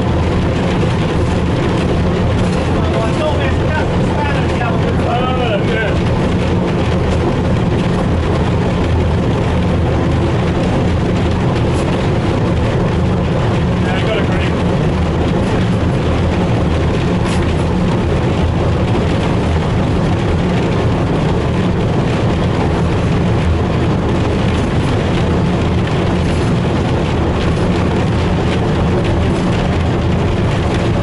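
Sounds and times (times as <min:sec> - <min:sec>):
locomotive diesel engine running: 0:00.0 - 0:31.0
wheels rumbling on track: 0:00.0 - 0:31.0.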